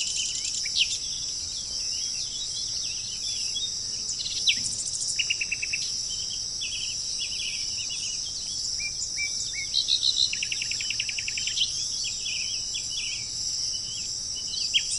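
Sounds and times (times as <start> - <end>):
high-pitched insect drone: 0.0 - 14.9
small birds chirping: 0.0 - 14.9.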